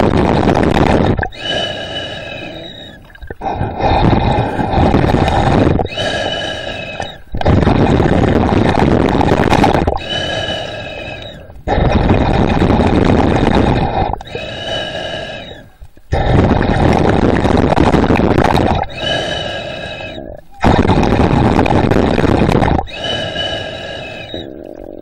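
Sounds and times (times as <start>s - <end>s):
breathing through a mouthpiece: 1.3s - 8.0s, 9.8s - 17.0s, 18.8s - 25.0s.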